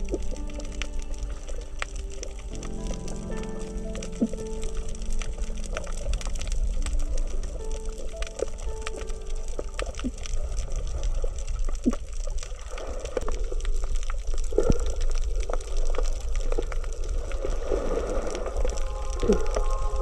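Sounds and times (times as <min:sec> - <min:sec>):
gurgling bubbly water: 0:00.0 - 0:20.0
underwater crackle of clicks: 0:00.0 - 0:20.0.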